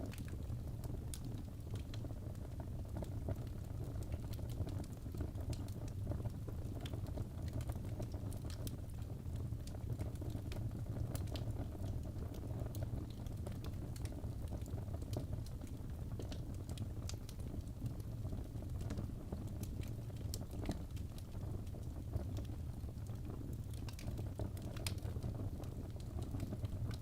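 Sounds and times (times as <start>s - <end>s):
fire crackling and popping: 0.0s - 27.0s
fire flames rumbling: 0.0s - 27.0s.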